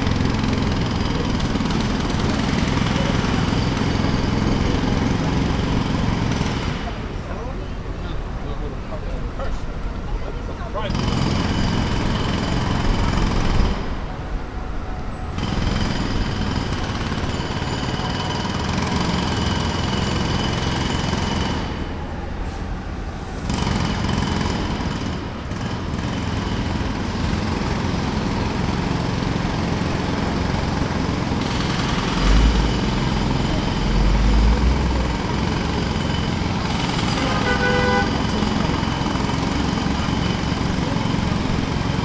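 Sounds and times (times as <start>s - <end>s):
jackhammer hammering: 0.0s - 7.5s, 10.9s - 14.1s, 15.4s - 22.2s, 23.4s - 42.0s.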